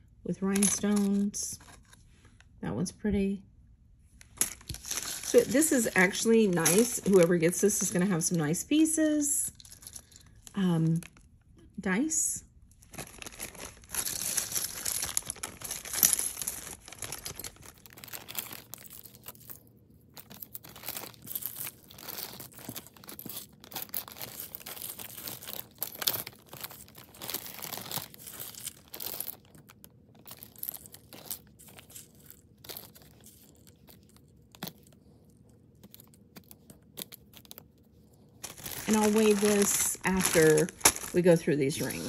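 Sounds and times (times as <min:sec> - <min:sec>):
plastic bag crinkling: 0:04.3 - 0:08.4, 0:09.2 - 0:11.3, 0:12.7 - 0:37.8, 0:38.4 - 0:42.0.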